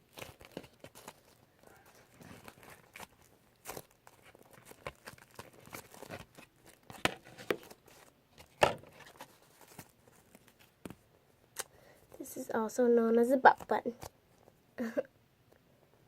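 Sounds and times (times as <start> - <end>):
foam toy rustling and crinkling: 0.0 - 11.1, 12.1 - 14.1.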